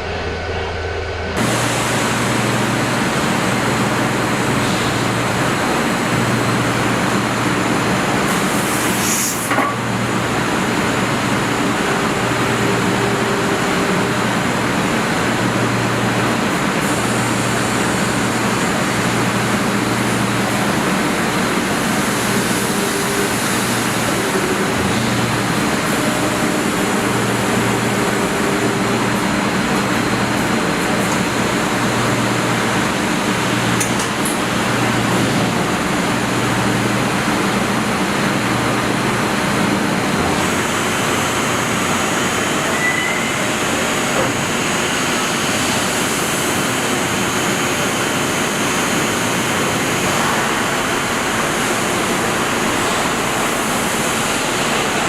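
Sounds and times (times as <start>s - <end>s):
industrial machinery hum: 0.0s - 55.0s.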